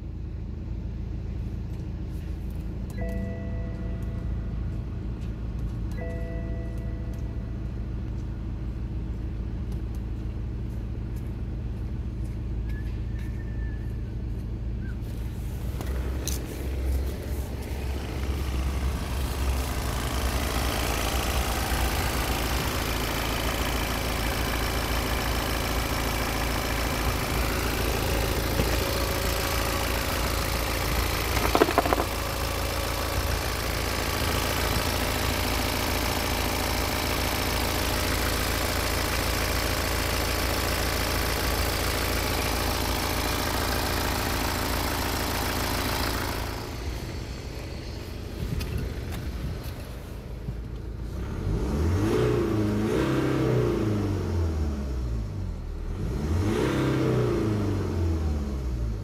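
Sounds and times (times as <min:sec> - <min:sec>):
diesel engine idling: 0:00.0 - 0:52.2.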